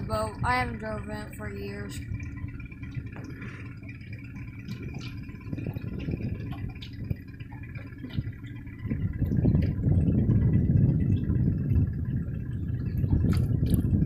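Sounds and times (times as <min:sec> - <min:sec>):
boat motor humming: 0:00.0 - 0:14.0
water lapping at hull: 0:00.0 - 0:14.0.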